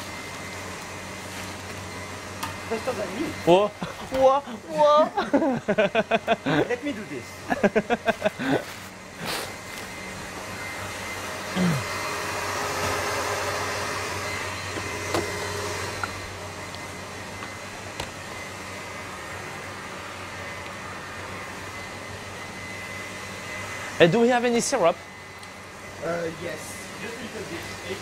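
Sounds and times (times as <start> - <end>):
kitchen machinery whirring: 0.0 - 28.0.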